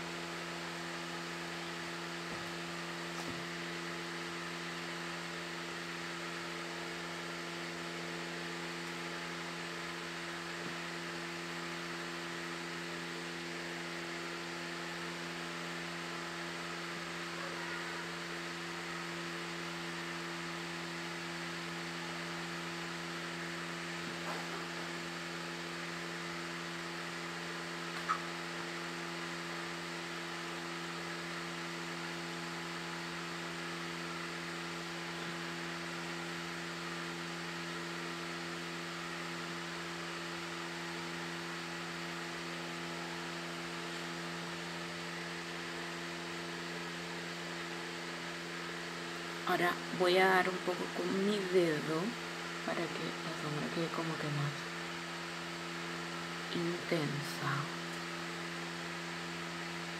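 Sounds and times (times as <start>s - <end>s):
appliance humming with hiss: 0.0s - 59.9s.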